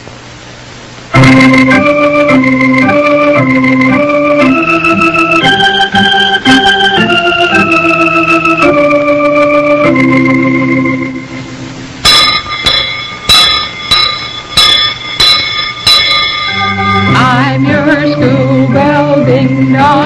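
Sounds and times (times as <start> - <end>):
organ playing held notes: 1.1 - 20.0.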